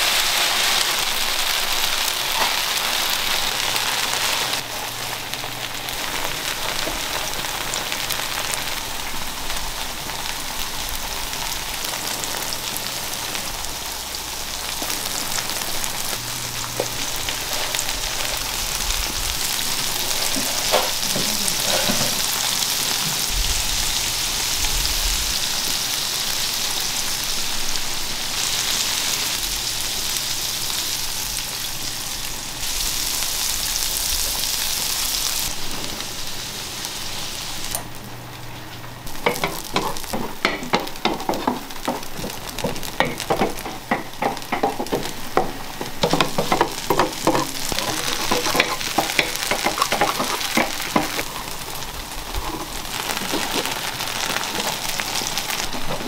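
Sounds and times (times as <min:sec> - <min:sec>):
batter sizzling in hot pans: 0:00.0 - 0:56.0.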